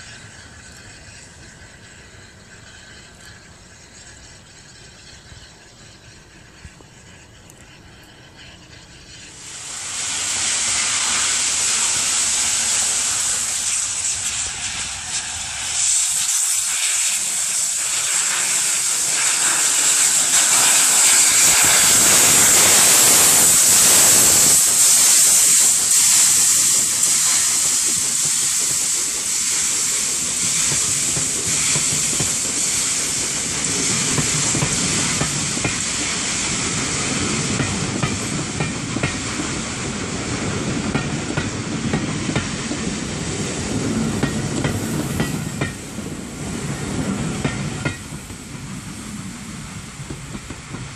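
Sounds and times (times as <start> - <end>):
steam locomotive hissing steam: 0.0 - 50.9.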